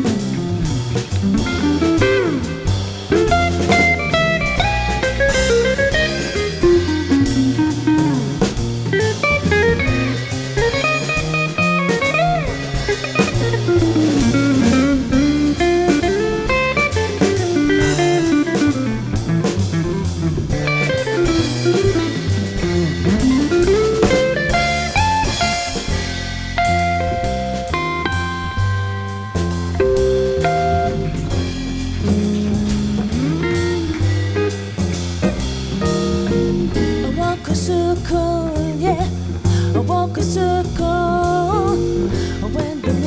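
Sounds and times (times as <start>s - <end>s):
electric guitar lead: 0.0s - 37.5s
bass: 0.0s - 43.0s
drum kit: 0.0s - 43.0s.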